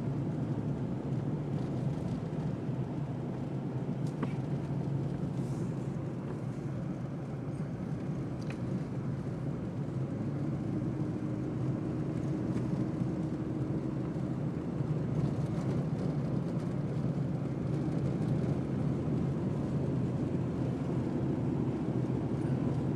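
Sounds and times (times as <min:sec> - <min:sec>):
car driving at highway speed: 0:00.0 - 0:22.9.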